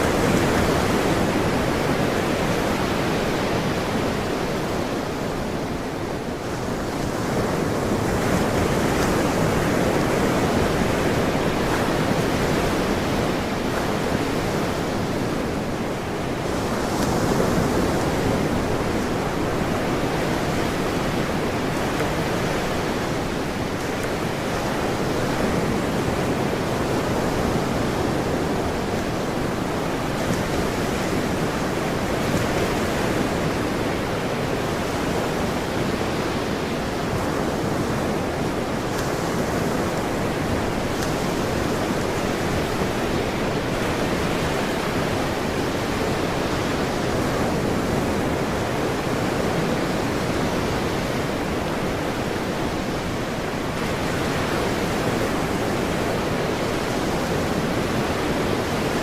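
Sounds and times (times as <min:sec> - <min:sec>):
ocean surf washing ashore: 0:00.0 - 0:59.0.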